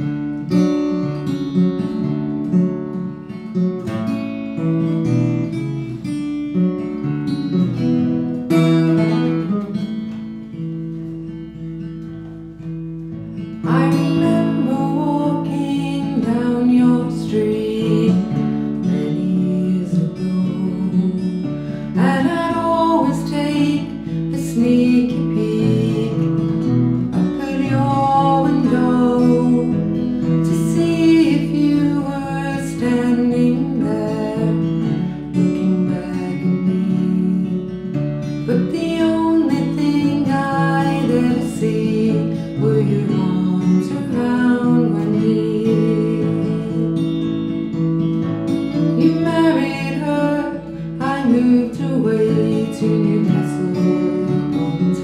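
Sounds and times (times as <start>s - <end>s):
acoustic guitars playing folk song: 0.0s - 55.0s.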